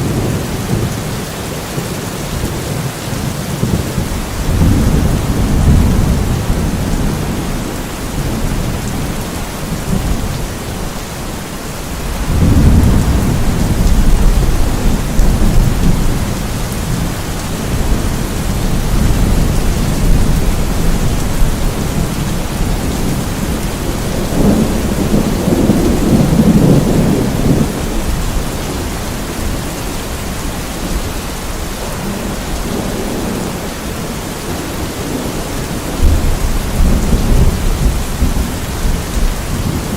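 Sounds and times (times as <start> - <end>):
steady rain: 0.0 - 39.9
rolling thunder: 2.3 - 39.9.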